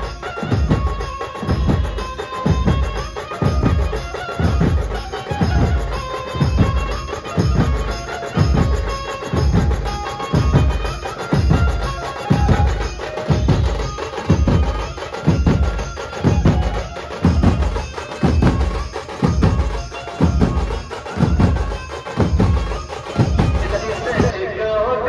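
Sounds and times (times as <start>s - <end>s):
heavy drum beat: 0.0s - 24.3s
band melody: 0.0s - 25.0s.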